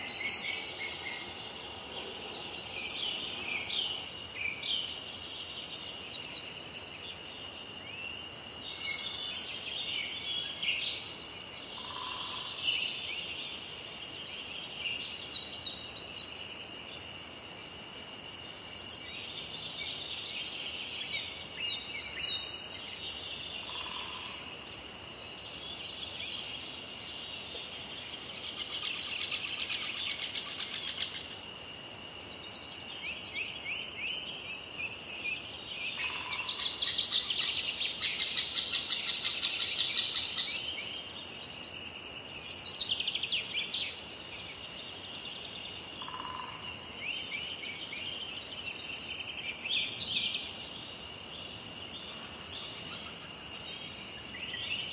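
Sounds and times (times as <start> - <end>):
insect drone: 0.0 - 54.9.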